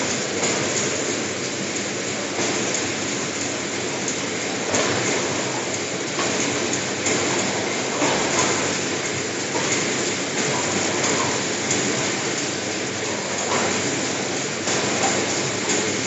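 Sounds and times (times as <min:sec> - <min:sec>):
packing machinery running: 0:00.0 - 0:16.0.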